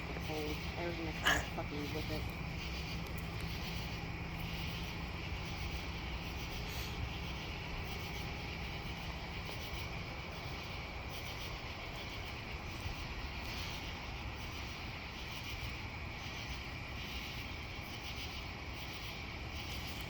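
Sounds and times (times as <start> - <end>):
high insect trill: 0.0 - 20.0
low steady rumble: 0.0 - 20.0.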